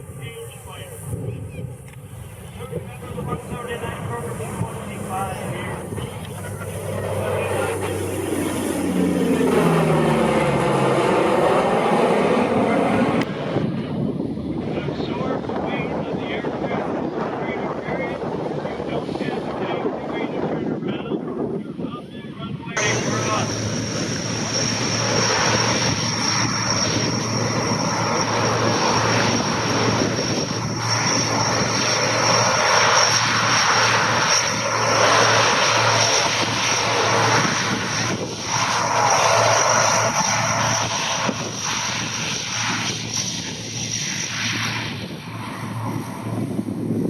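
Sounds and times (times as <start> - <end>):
propeller airplane engines roaring: 0.0 - 47.0.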